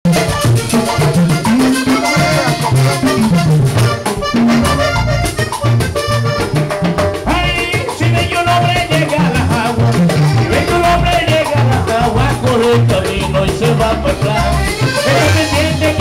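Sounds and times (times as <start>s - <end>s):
salsa band playing: 0.0s - 16.0s.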